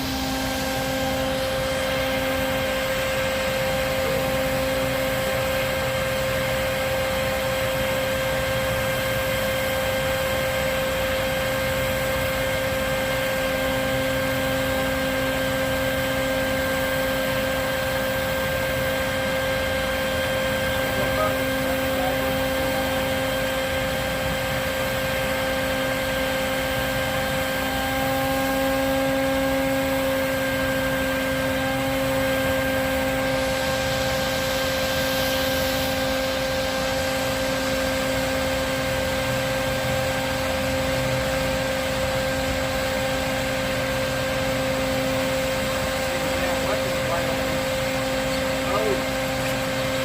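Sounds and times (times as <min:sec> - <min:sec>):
vacuum motor whining: 0:00.0 - 0:50.0.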